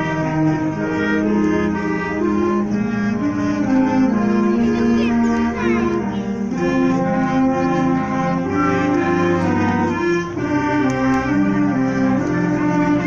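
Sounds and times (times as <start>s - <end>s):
wind band playing: 0.0s - 13.0s.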